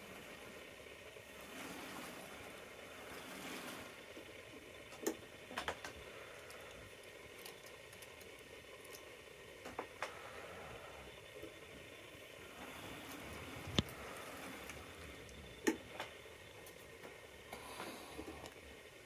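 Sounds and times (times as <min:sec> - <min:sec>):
model train wheels rumbling on rails: 0:00.0 - 0:19.0.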